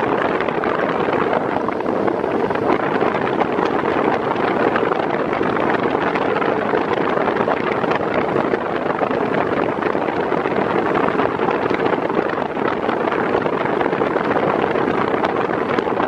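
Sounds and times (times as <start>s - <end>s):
fan blowing air: 0.0s - 16.0s.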